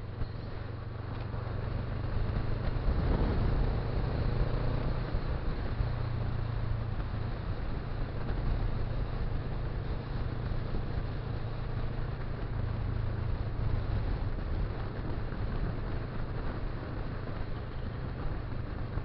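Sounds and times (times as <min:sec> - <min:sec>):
motorcycle engine cruising: 0:00.0 - 0:19.0
road noise: 0:00.0 - 0:19.0
wind noise: 0:00.0 - 0:19.0.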